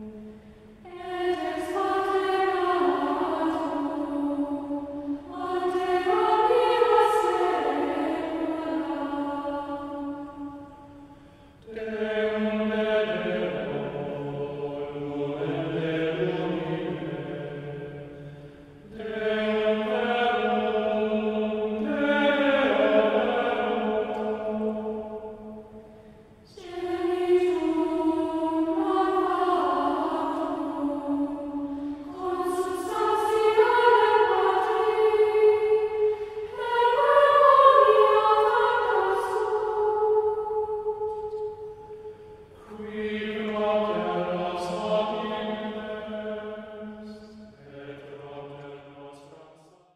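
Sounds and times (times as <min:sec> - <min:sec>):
choir singing chant: 0:00.0 - 0:49.9.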